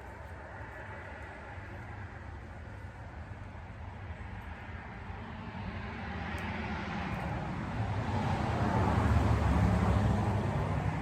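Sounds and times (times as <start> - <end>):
passing vehicle rumble and tyres: 0.0 - 11.0.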